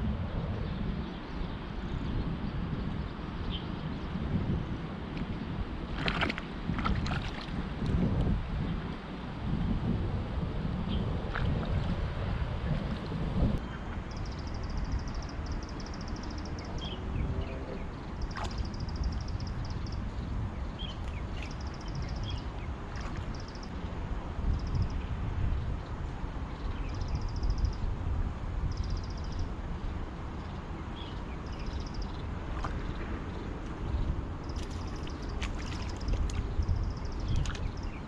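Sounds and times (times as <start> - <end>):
wind on microphone: 0.0 - 38.0.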